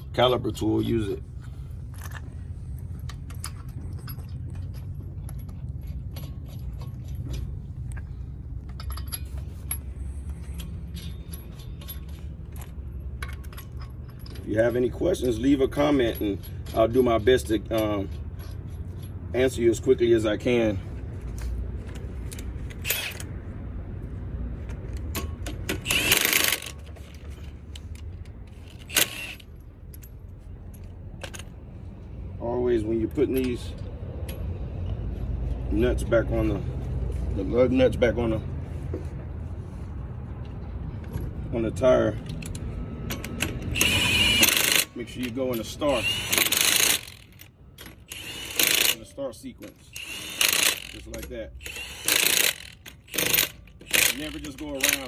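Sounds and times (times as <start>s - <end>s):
metal tools clinking and rattling: 0.0s - 23.3s, 24.6s - 31.7s, 32.8s - 35.0s, 40.6s - 55.0s.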